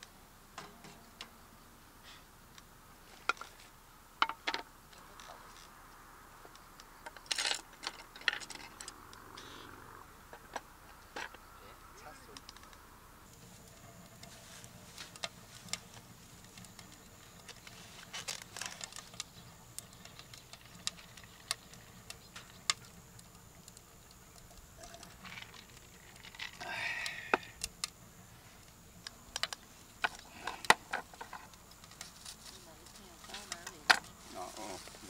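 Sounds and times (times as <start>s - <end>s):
firewood crackling in stove: 0.0s - 35.0s.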